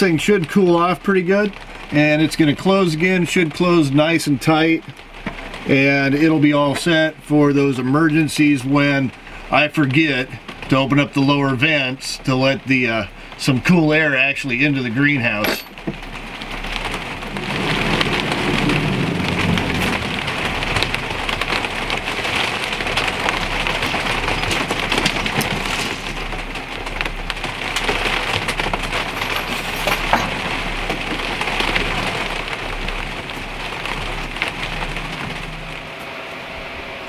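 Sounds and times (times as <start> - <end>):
sharp raindrop hits: 0.0 - 36.4
rain falling: 0.0 - 37.0.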